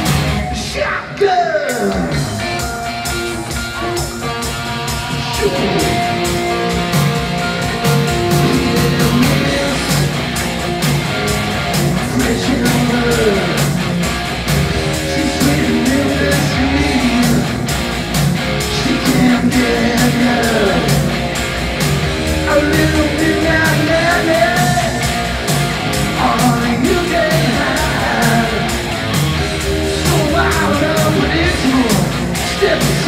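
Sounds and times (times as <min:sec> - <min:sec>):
distorted electric guitars: 0:00.0 - 0:33.0
drums with driving beat: 0:00.0 - 0:33.0.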